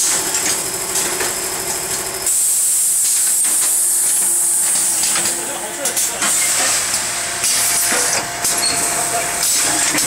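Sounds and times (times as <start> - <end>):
machine mechanical hum: 0.0 - 10.0.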